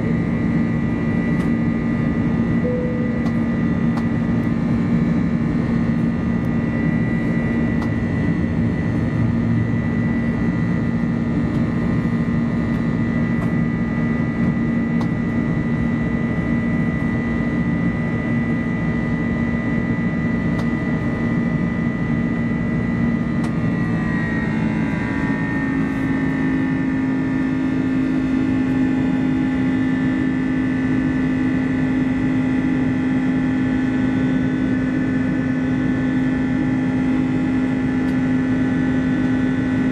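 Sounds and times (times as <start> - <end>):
jet engine drone and whine: 0.0 - 39.9.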